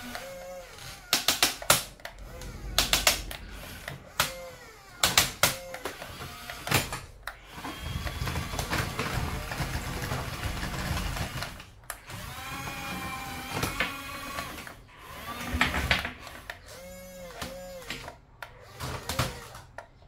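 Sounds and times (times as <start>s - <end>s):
small electric motors whining: 0.0s - 19.8s.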